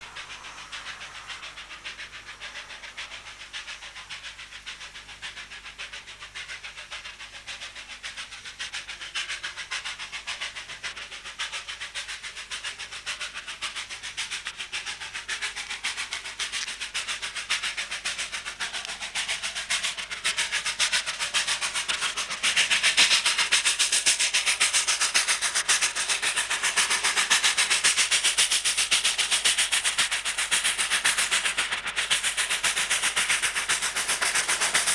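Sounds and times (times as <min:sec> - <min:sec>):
hissing steam: 0:00.0 - 0:34.9
steam locomotive exhaust beats: 0:00.0 - 0:34.9.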